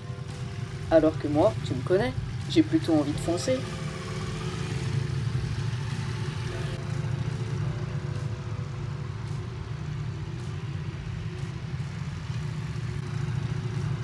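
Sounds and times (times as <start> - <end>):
motorcycle engine running at low revs: 0.0 - 14.0.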